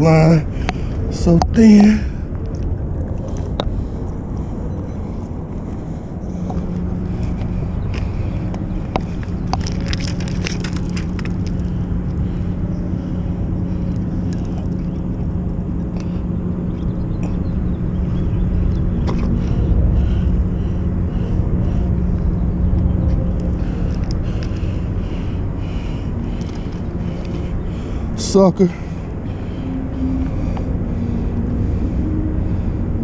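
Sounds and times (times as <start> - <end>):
large engine droning: 0.0 - 33.0.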